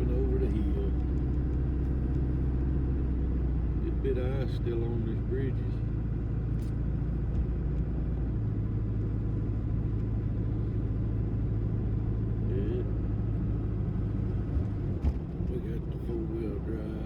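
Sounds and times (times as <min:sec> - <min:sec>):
truck engine and tyres rumbling: 0:00.0 - 0:17.0.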